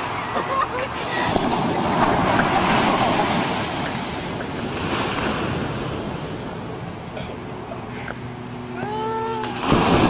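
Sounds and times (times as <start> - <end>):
sea waves washing in: 0.0 - 10.0.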